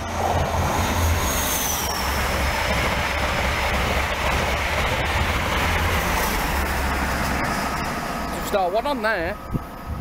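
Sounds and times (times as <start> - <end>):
train rolling past: 0.0 - 10.0.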